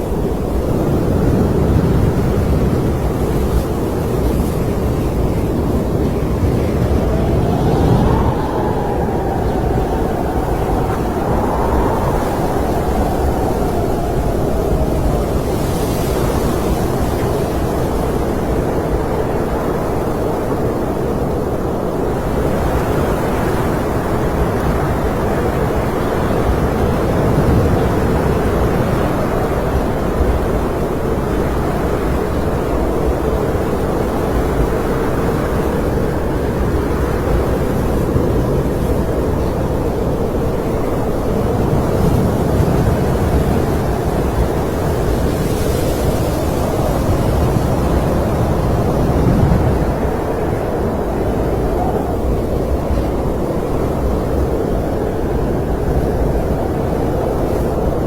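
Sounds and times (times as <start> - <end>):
howling blizzard wind: 0.0 - 58.0.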